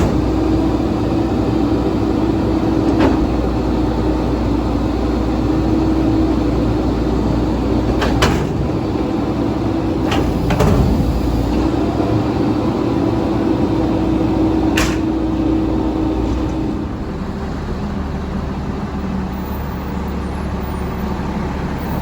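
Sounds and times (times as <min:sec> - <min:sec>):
garbage truck rumbling: 0:00.0 - 0:22.0.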